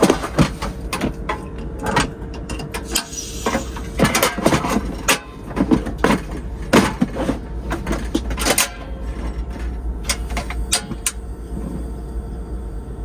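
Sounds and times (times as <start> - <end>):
objects knocking and clattering: 0.0 - 11.8
steady low hum: 0.0 - 13.0.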